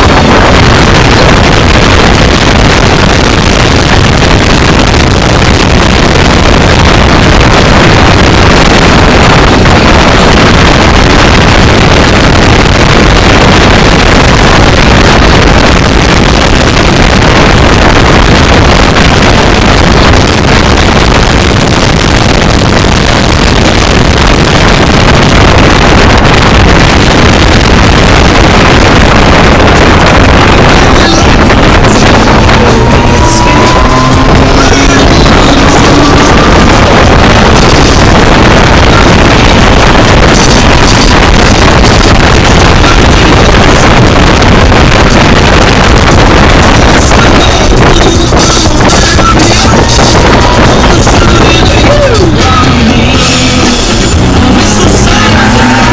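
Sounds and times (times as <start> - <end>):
car engine from inside cabin: 0.0 - 47.0
wind noise: 0.0 - 55.9.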